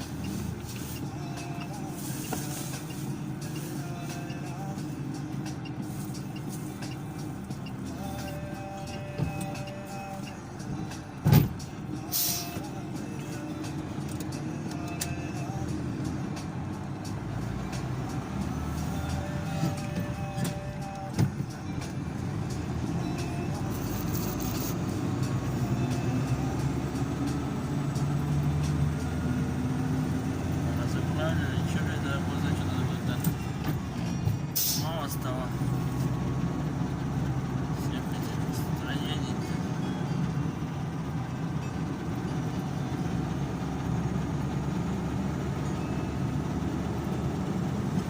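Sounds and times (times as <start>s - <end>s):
road noise: 0.0s - 48.0s
vehicle engine drone: 0.0s - 48.0s.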